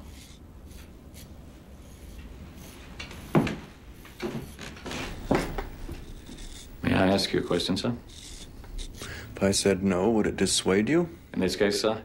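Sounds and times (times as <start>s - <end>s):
razor scraping stubble: 0.0s - 9.8s.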